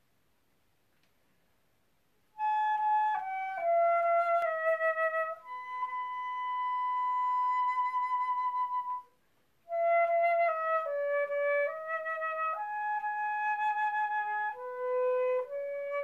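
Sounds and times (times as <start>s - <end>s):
flute melody: 2.3s - 16.0s.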